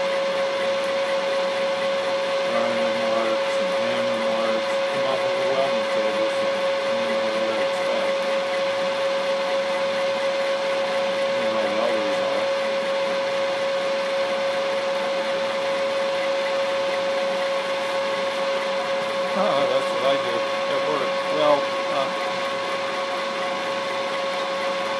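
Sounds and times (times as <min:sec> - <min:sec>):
milling machine whining: 0:00.0 - 0:24.9.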